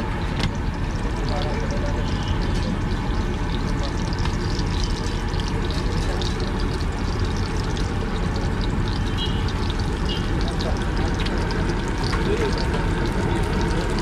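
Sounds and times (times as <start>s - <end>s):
eggs sizzling in oil: 0.0s - 14.0s.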